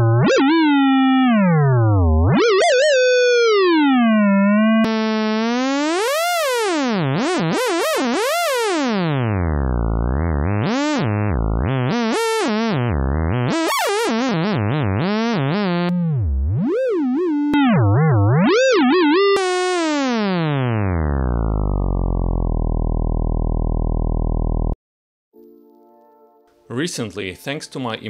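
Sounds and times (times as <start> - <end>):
gliding buzzy synthesizer tone: 0.0 - 24.8.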